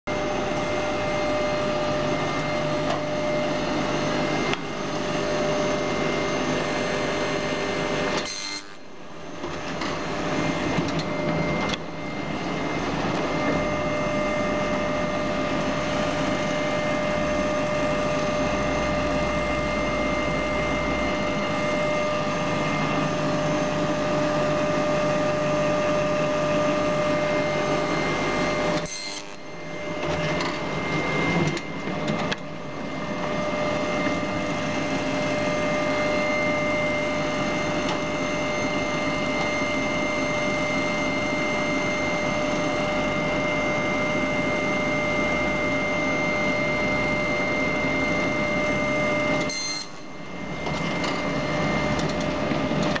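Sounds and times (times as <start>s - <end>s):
binding machine humming: 0.1s - 53.0s.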